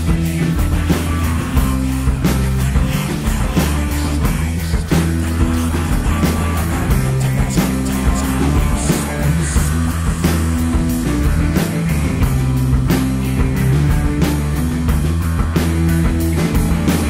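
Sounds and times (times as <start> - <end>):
bass guitar: 0.0 - 17.0
drum kit beat: 0.0 - 17.0
guitars: 0.0 - 17.0.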